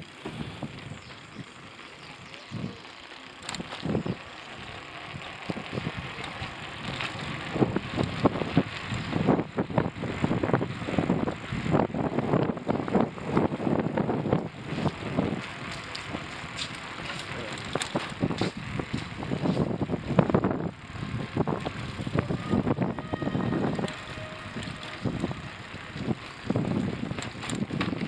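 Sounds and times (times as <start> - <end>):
wind buffeting microphone: 0.2 - 28.0.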